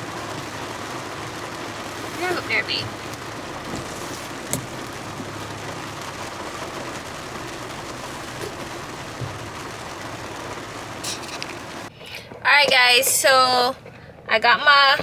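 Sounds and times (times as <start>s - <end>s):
rushing noise inside car: 0.0s - 15.0s.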